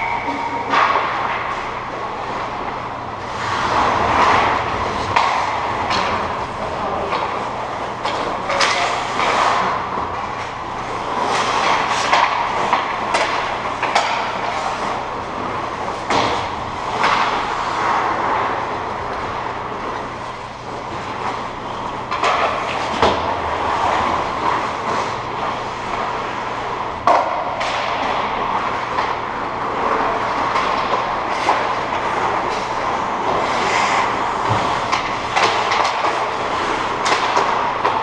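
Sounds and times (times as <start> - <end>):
hockey sticks and puck clacking: 0.0 - 38.0
steady low hum: 0.0 - 38.0
skates scraping on ice: 3.2 - 38.0.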